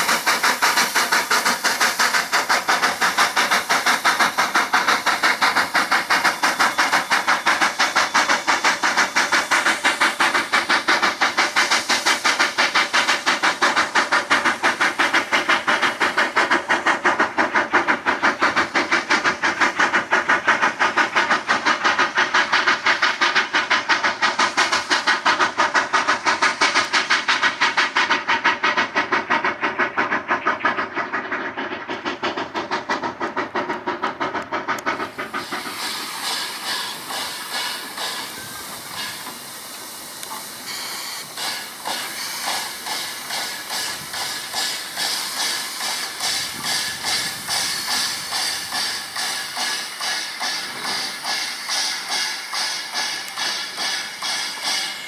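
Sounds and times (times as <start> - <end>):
steam hissing: 0.0 - 55.0
steam locomotive chuffing: 0.0 - 55.0.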